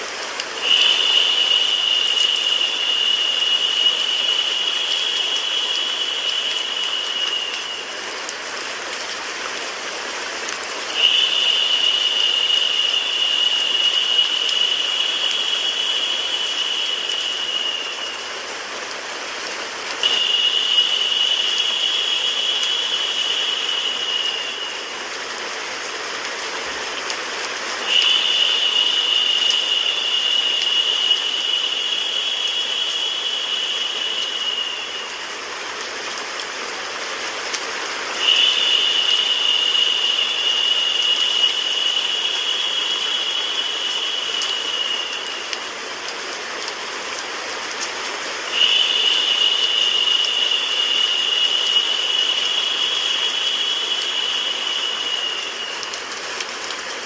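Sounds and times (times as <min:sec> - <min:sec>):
high-pitched hiss: 0:00.0 - 0:57.0
rain with white noise: 0:00.0 - 0:57.0.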